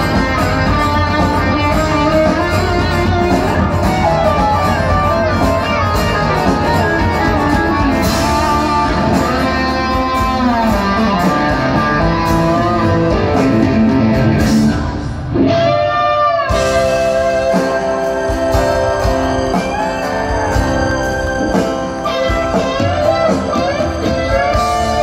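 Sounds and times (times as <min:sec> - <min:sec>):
bass guitar: 0:00.0 - 0:25.0
drums: 0:00.0 - 0:25.0
electric guitar lead: 0:00.0 - 0:25.0
strummed guitar: 0:00.0 - 0:25.0.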